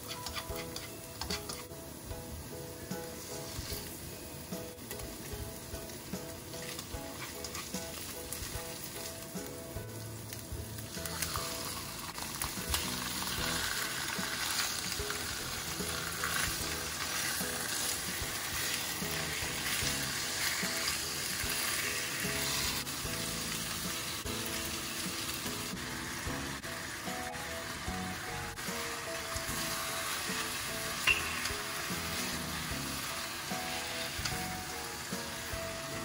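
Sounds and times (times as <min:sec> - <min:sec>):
chicken sizzling in hot oil: 0:00.0 - 0:36.0
soft background music: 0:00.0 - 0:36.0.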